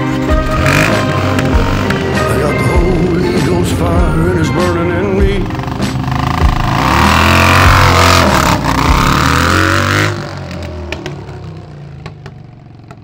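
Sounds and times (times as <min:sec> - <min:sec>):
motorcycle engine revving: 0:00.1 - 0:13.0.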